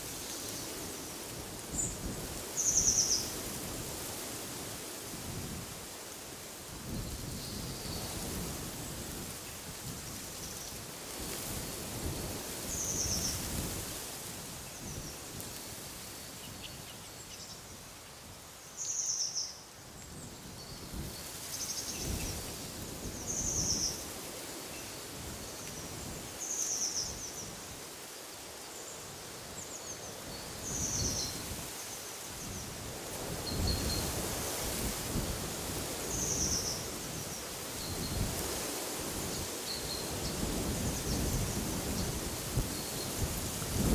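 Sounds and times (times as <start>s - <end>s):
wind rustling through trees: 0.0s - 43.9s.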